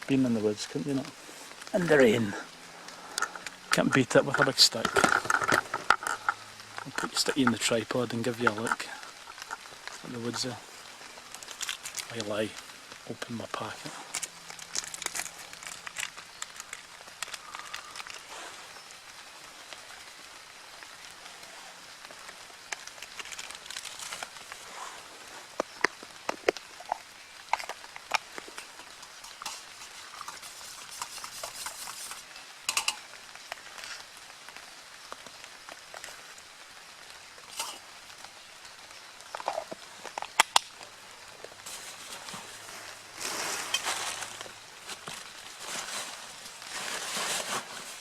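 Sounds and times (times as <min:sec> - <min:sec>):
rain pattering in woodland: 0:00.0 - 0:48.0.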